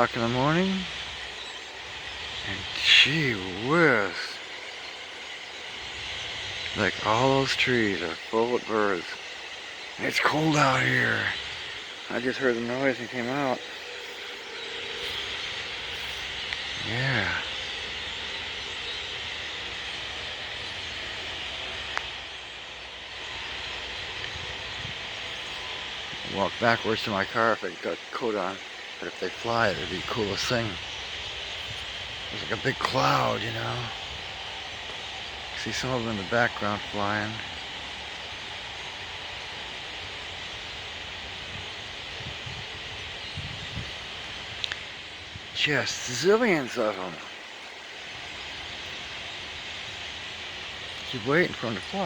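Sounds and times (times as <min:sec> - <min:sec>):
flock of birds chattering: 0:00.0 - 0:52.0.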